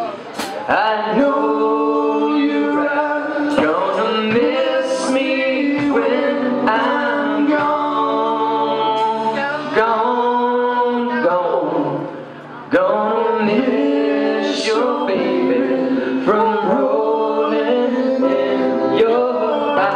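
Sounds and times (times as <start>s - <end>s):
electric guitar: 0.0s - 19.9s
men singing in harmony: 0.7s - 19.9s.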